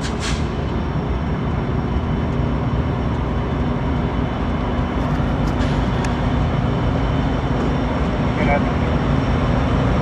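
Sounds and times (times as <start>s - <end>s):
diesel locomotives rumbling: 0.0s - 10.0s.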